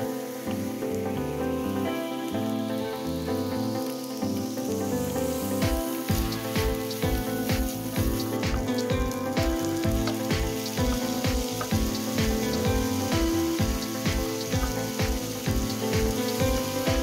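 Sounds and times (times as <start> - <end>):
instrumental music with beat: 0.0 - 17.0
onions sizzling in frying pan: 0.0 - 17.0.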